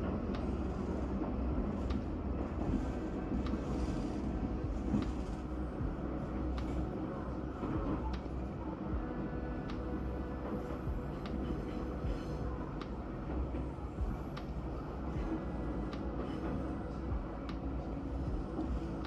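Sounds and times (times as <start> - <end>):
railcar low rumble: 0.0 - 19.0.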